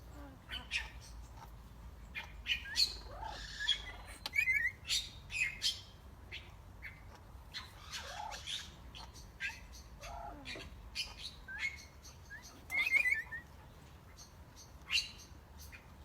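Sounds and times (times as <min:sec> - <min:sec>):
parrots squawking and chirping: 0:00.0 - 0:15.9.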